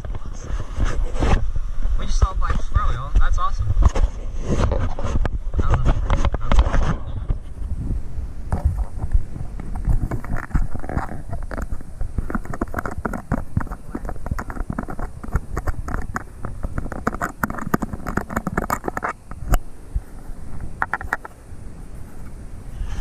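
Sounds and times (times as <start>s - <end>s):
clothing rubbing on camera: 0.0s - 23.0s.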